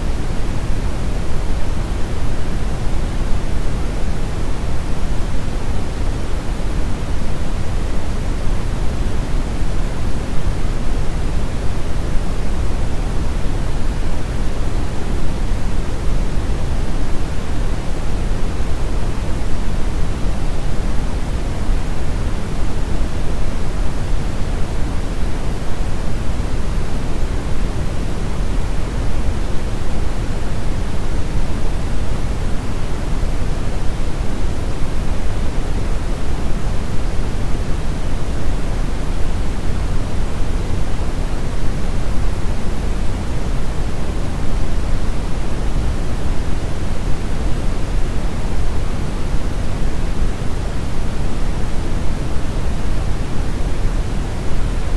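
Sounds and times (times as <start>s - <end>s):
brown noise hiss: 0.0s - 54.9s.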